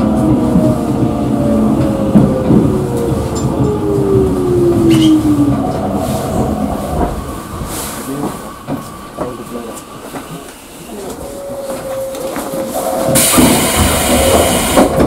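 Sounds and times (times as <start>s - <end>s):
train wheel rumble: 0.0s - 15.0s.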